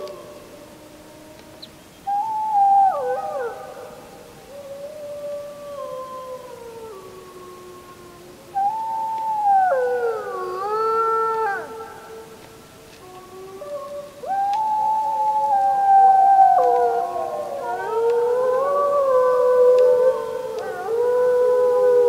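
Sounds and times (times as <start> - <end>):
wolves howling in chorus: 0.0 - 22.0.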